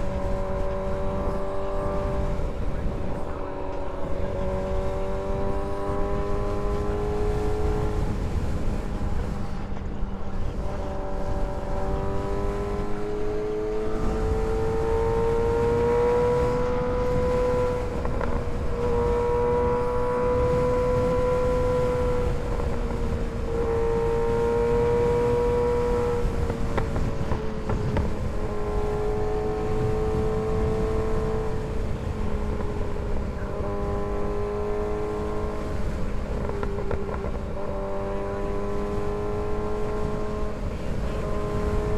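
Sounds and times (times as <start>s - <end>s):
motorcycle engine running: 0.0s - 41.9s
wind rumble on microphone: 0.0s - 41.9s.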